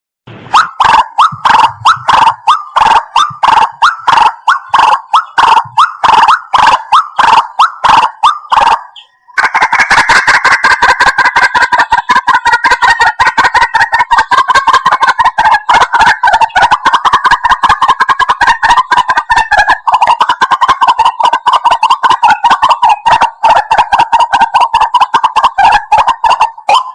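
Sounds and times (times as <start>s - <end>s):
waterhen calling: 0.5s - 26.9s.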